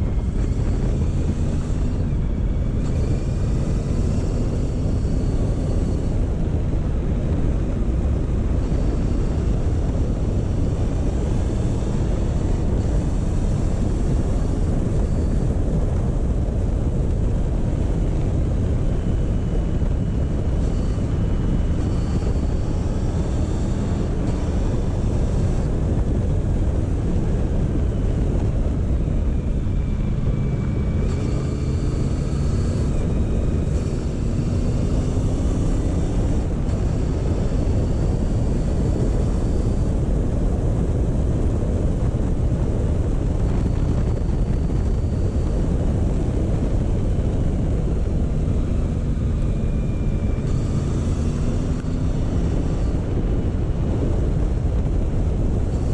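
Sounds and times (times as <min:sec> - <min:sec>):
motorcycle engine running: 0:00.0 - 0:55.9
wind rushing over microphone: 0:00.0 - 0:55.9.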